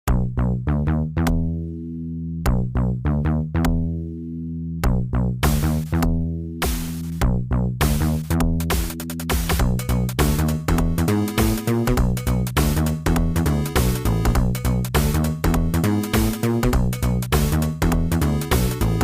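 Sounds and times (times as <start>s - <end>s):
sustained bass tones: 0.0s - 8.8s, 9.6s - 19.0s
plucked synth notes: 0.1s - 19.0s.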